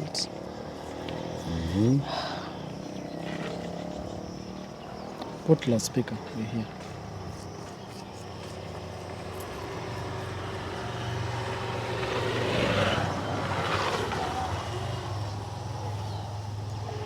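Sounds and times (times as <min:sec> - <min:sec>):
motor vehicle passing by: 0:00.0 - 0:17.0.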